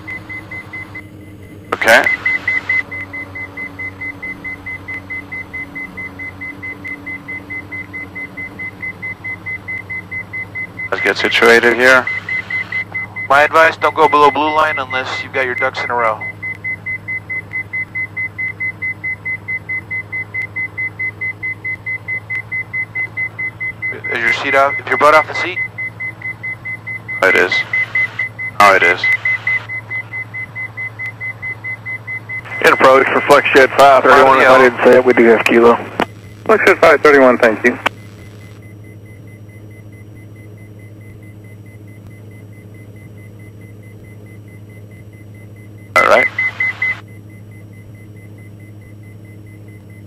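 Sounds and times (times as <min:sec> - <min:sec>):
aircraft engines droning: 0:00.0 - 0:50.0
rapid high electronic beeps: 0:00.0 - 0:50.0.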